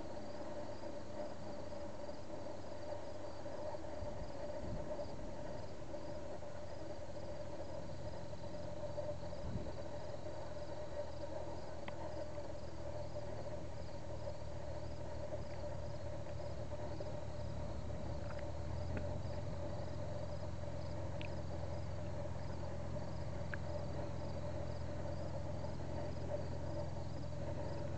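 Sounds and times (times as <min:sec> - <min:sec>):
insects chirping: 0:00.0 - 0:27.9
low steady drone: 0:00.0 - 0:27.9.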